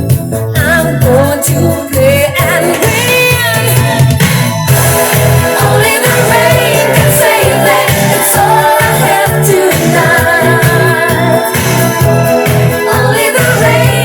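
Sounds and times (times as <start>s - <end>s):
pop song singing: 0.0s - 14.0s
pulsing bass line: 0.0s - 14.0s.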